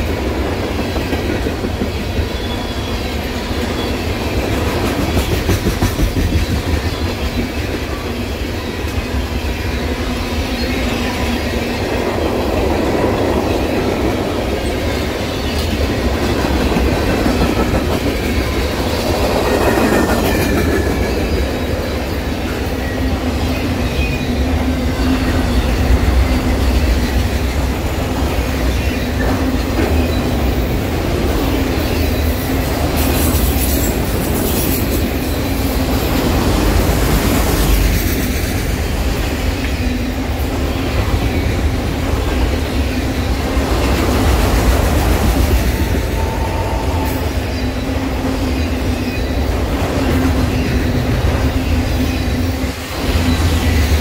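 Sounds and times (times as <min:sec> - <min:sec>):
train wheels clattering over rails: 0:00.0 - 0:10.0, 0:10.6 - 0:54.0.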